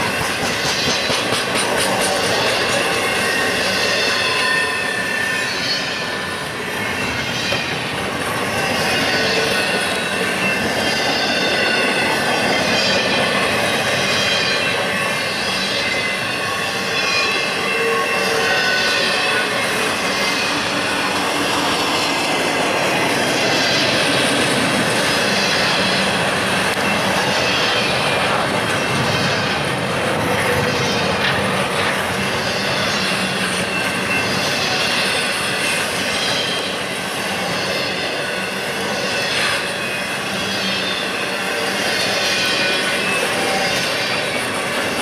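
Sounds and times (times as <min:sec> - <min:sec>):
wheel squeal: 0:00.0 - 0:29.8, 0:30.4 - 0:45.0
freight train wheels rumbling on rail: 0:00.0 - 0:45.0.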